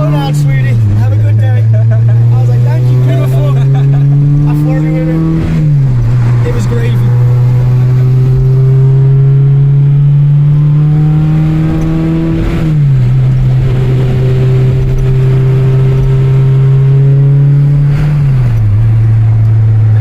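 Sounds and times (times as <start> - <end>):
car engine pulling: 0.0 - 20.0.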